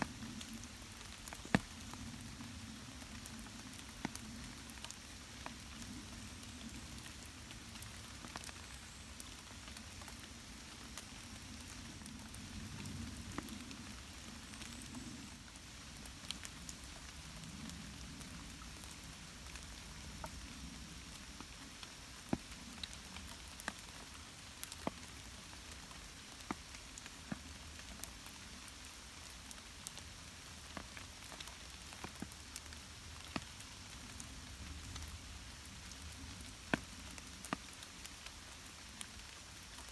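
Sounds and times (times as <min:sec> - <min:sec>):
light rain hissing: 0:00.0 - 0:39.9
raindrops ticking: 0:00.0 - 0:39.9.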